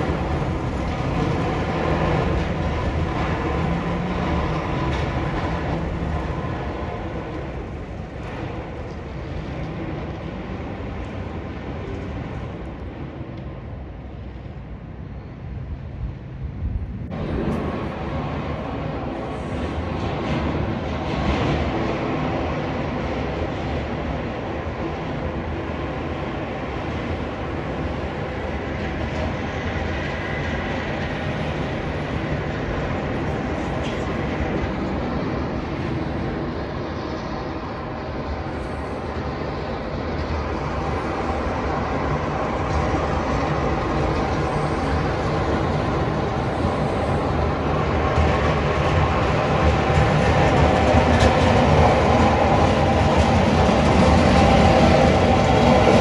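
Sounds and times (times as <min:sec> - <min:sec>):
snowplow blade scraping road: 0:00.0 - 0:13.0, 0:17.1 - 0:56.0.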